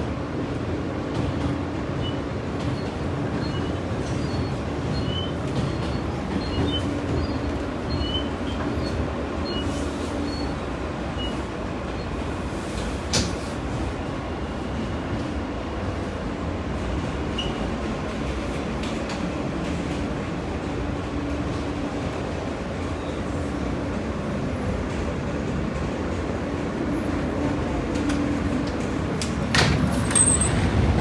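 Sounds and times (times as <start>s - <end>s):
subway train rumble and hum: 0.0s - 31.0s.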